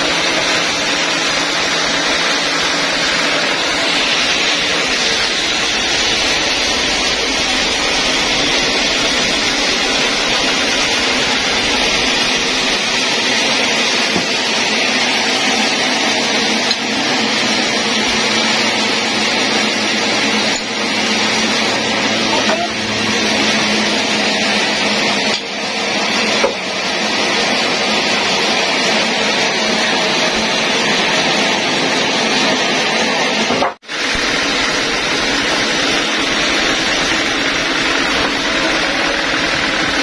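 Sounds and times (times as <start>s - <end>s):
band sawmill running: 0.0s - 40.0s.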